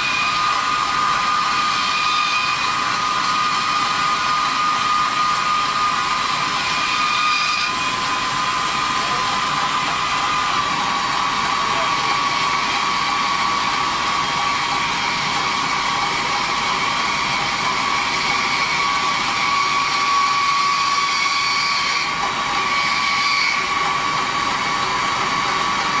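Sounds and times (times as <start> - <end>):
wire saw cutting steel: 0.0 - 26.0.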